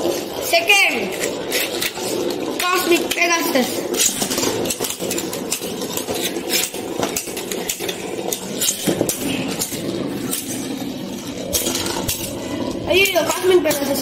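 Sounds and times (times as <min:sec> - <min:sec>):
spinning tops rasping hum: 0:00.0 - 0:14.0.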